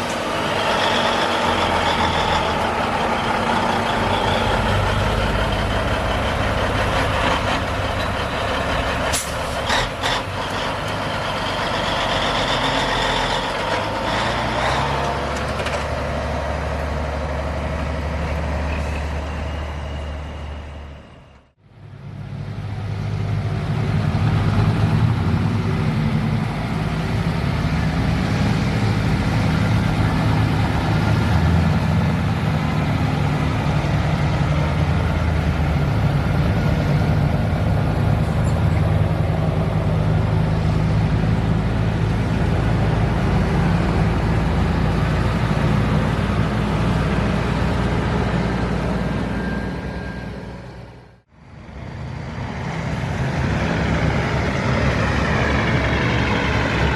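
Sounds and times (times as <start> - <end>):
truck diesel engine running: 0.0 - 56.9.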